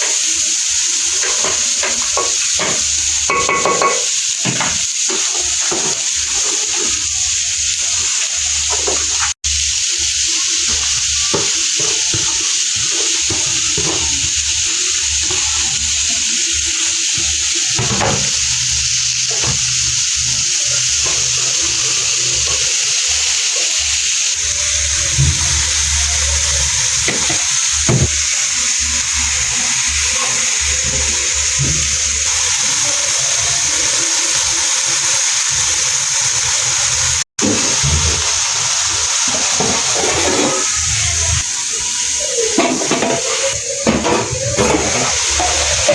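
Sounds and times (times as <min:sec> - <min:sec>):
food sizzling in a pan: 0:00.0 - 0:45.9.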